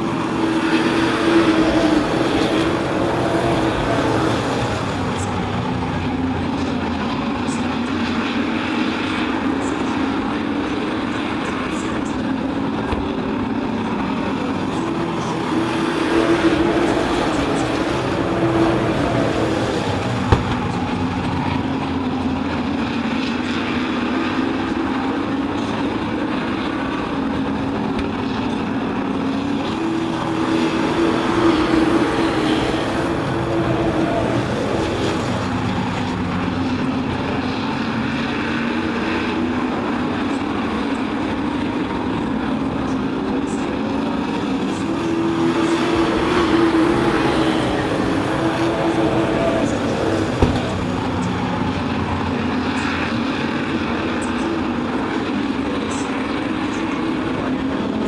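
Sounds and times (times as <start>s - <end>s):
race truck engines: 0.0s - 58.0s.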